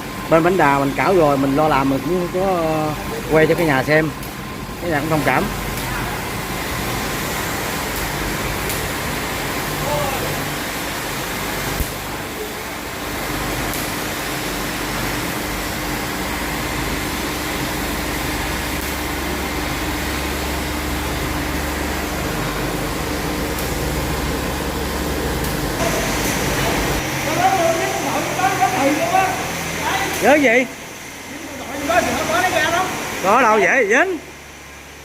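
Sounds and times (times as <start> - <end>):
machinery hum: 0.0 - 35.0.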